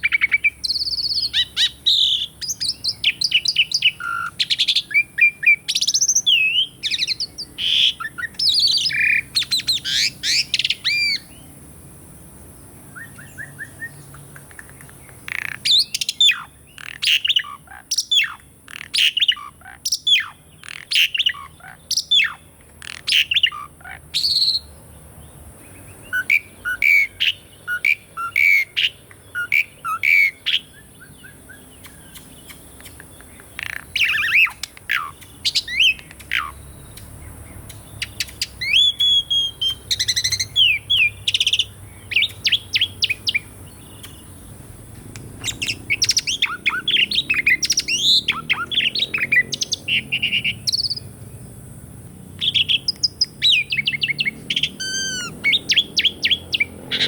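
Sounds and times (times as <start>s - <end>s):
starling singing whistles and squawks: 0.0s - 11.4s, 12.9s - 24.7s, 26.0s - 44.4s, 45.4s - 51.1s, 52.4s - 57.0s.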